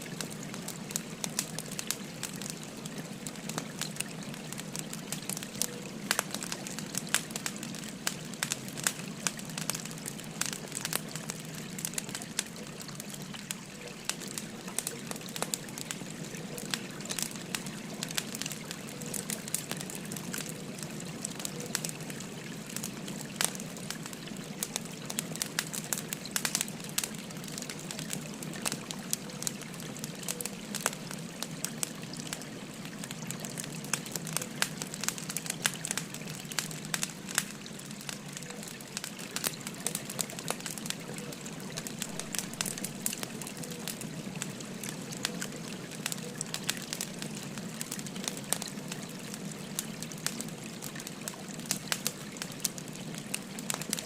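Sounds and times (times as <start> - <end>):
firewood crackling and popping: 0.0 - 54.0
gently flowing stream: 0.0 - 54.0.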